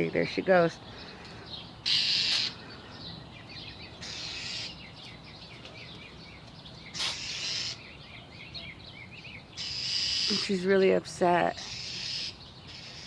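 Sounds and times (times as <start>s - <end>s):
bird harsh scolding calls: 0.8s - 13.0s.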